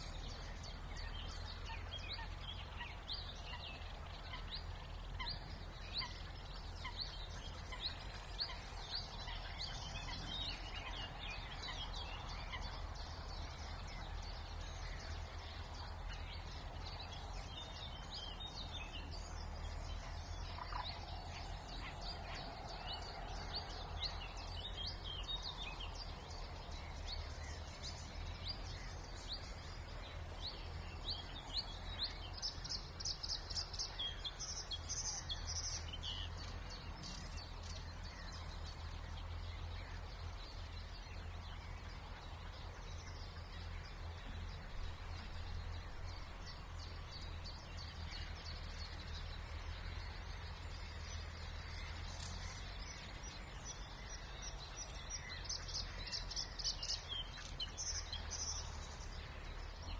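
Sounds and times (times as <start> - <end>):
low hum of distant noise: 0.0 - 59.9
songbirds singing and calling: 0.0 - 59.9.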